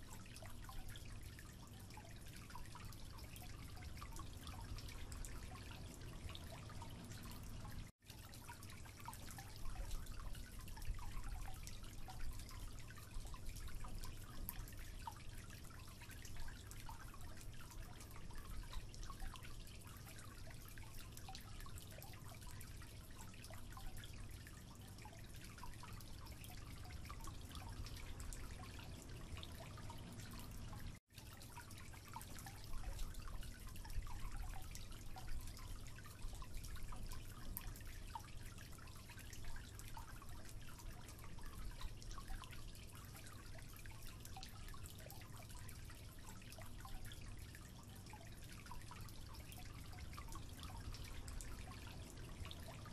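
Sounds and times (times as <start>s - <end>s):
low steady hum: 0.0s - 52.9s
water dripping into sink: 0.0s - 52.9s.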